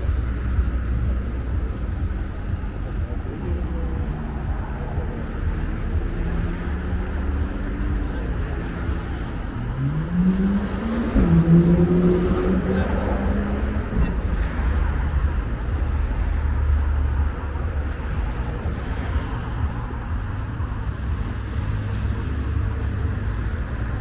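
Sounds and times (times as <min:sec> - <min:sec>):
traffic rumble: 0:00.0 - 0:24.0
vehicle engine accelerating: 0:00.0 - 0:24.0.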